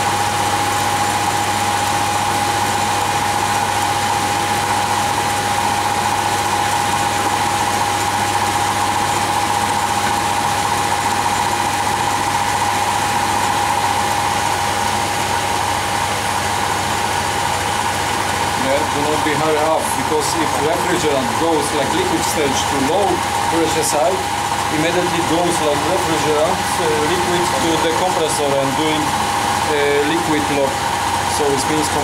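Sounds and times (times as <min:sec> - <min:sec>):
mid-pitched machine whine: 0:00.0 - 0:32.0.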